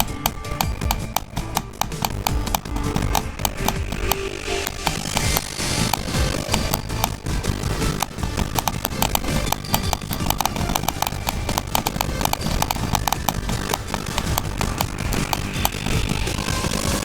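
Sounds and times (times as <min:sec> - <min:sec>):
rapid irregular clicks: 0:00.0 - 0:17.0.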